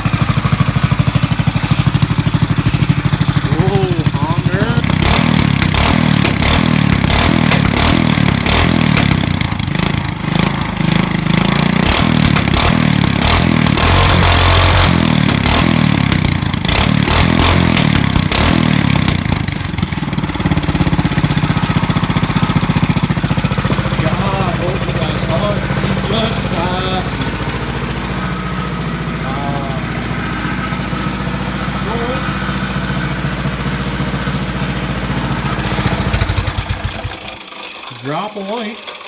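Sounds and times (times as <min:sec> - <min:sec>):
car engine running loud: 0:00.0 - 0:37.9.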